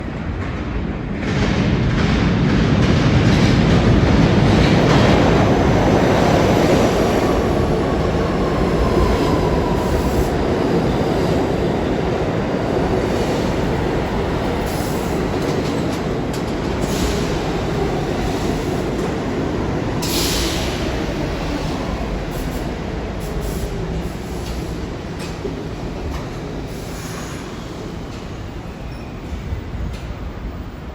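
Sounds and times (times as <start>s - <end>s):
train wheel and rail rumble: 0.0s - 30.9s.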